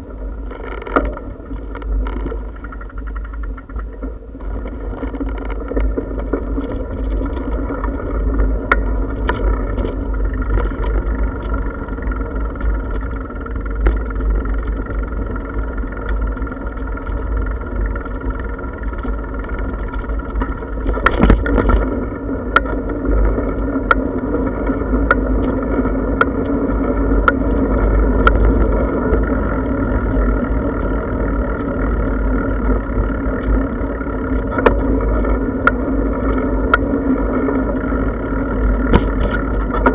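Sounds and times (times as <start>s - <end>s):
bicycle tyres rumbling on pavement: 0.0s - 39.9s.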